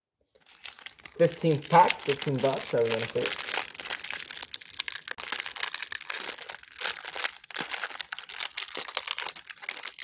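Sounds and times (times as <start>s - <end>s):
plastic wrapper crinkling: 0.3s - 10.0s.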